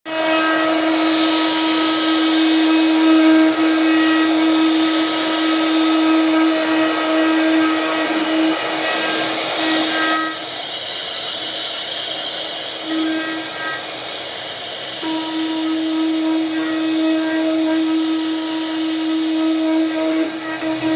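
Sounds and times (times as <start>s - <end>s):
woodworking machine motor whine: 0.1s - 20.9s.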